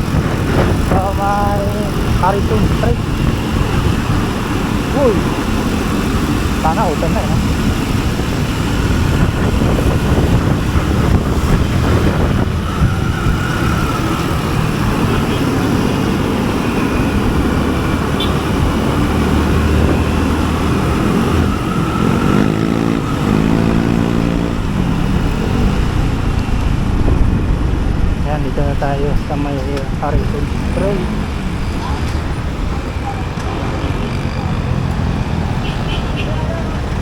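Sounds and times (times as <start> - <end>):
motorcycle engine: 0.0 - 37.0
wind noise on microphone: 0.0 - 37.0.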